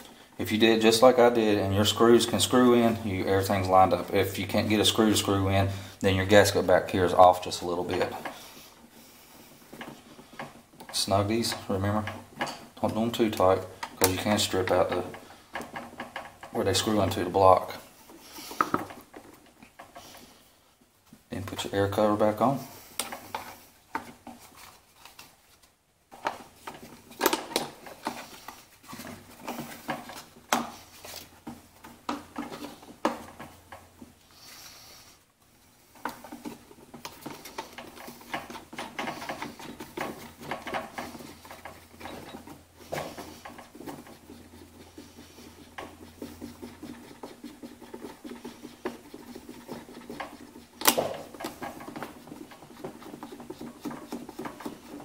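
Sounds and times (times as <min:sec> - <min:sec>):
plastic parts clicking and rubbing: 0:00.0 - 0:20.4, 0:21.1 - 0:34.2, 0:35.9 - 0:55.0.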